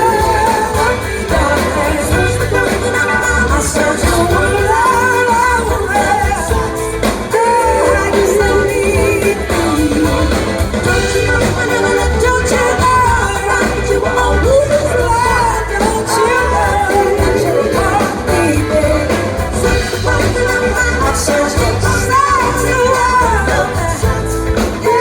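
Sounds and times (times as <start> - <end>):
live rock band playing: 0.0 - 25.0
person singing: 0.0 - 25.0.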